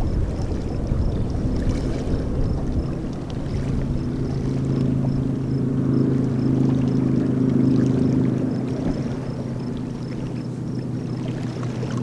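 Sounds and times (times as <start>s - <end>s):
low motor hum: 0.0s - 12.0s
wind rumbling on microphone: 0.0s - 12.0s.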